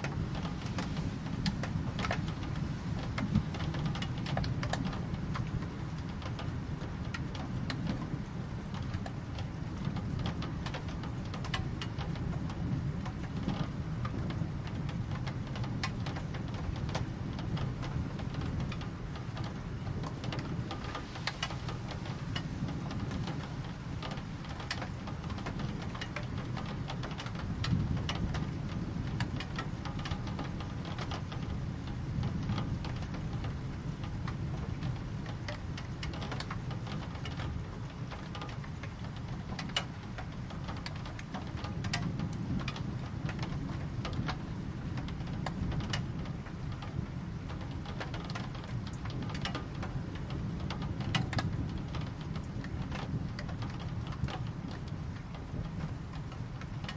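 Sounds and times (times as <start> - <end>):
rain falling: 0.0 - 56.9
raindrops tapping on surface: 0.0 - 56.9.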